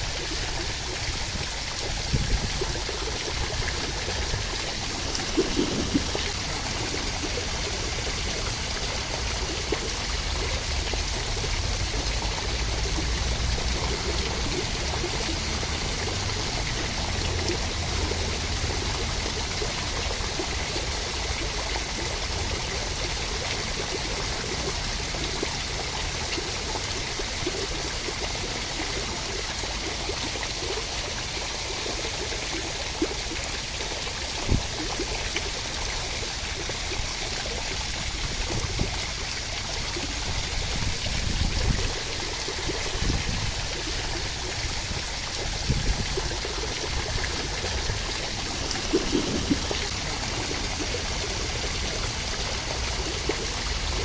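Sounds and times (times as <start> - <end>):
water rushing: 0.0 - 22.6, 23.4 - 54.0.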